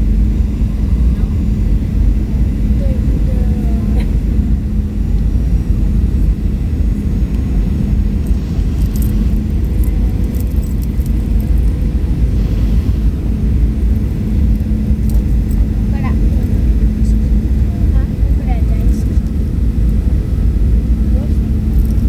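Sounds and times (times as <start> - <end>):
airliner engine and airflow rumble: 0.0 - 22.0
steady cabin hum: 0.0 - 22.0.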